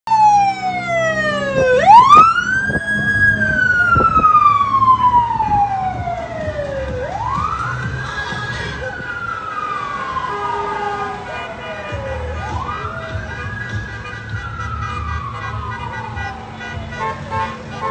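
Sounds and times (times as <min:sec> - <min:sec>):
emergency vehicle siren wailing: 0:00.1 - 0:17.9.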